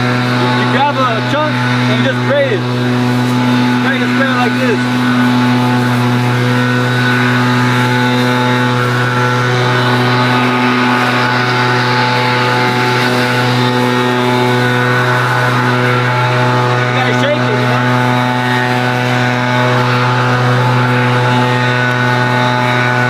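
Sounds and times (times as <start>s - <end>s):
small engine running at high speed: 0.0s - 23.0s.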